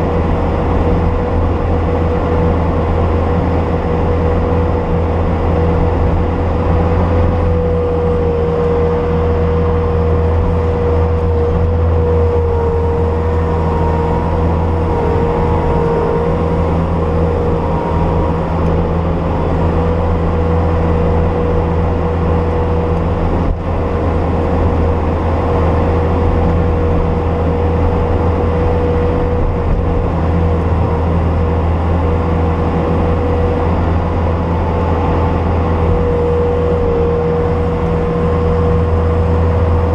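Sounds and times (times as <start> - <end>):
constant whine: 0.0 - 39.9
diesel engine running: 0.0 - 39.9.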